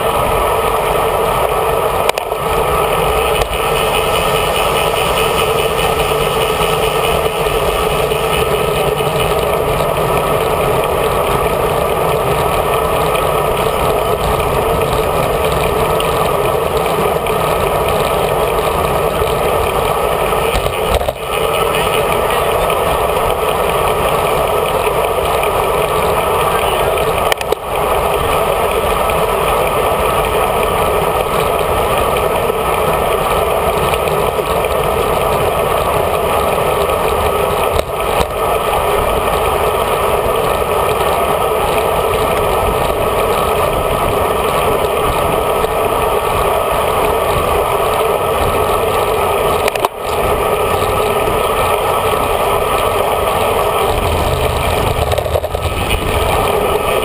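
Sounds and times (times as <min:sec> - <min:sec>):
wind and road noise rushing: 0:00.0 - 0:57.0.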